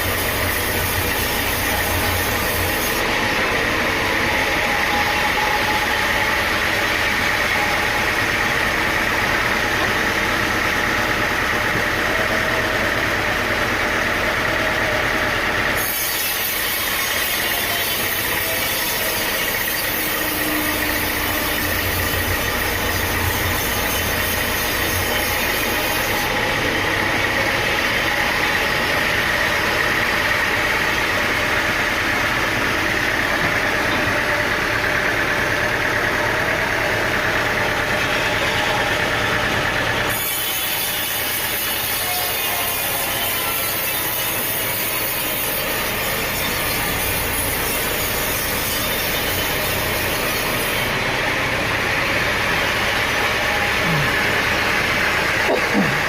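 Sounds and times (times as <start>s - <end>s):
saw cutting timber: 0.0s - 56.0s
sawmill engine running: 0.0s - 56.0s.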